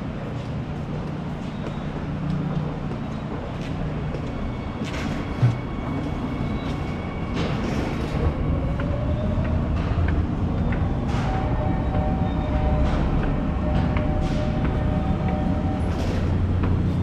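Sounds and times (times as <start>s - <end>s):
escalator rumble: 2.2s - 17.0s.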